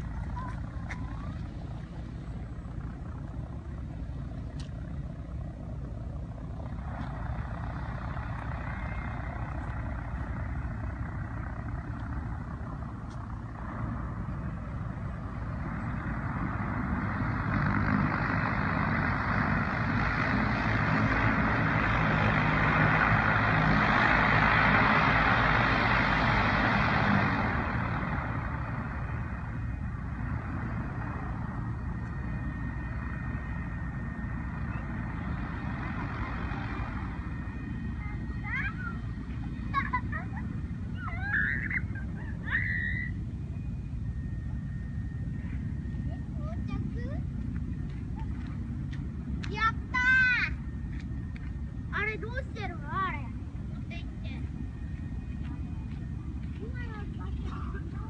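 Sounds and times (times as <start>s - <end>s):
airship engines droning: 0.0s - 58.0s.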